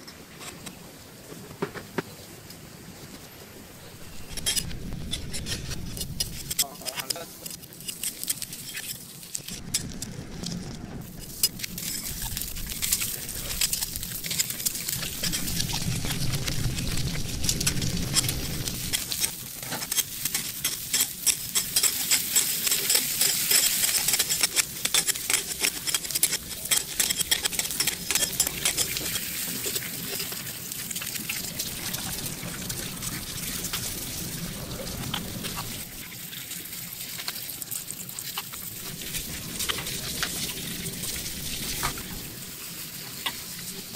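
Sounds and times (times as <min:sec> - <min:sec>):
eggs sizzling on a griddle: 0:04.0 - 0:10.0, 0:11.0 - 0:43.9.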